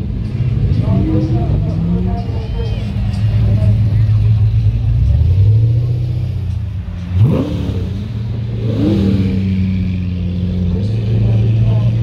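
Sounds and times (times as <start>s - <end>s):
car engines idling: 0.0s - 12.0s.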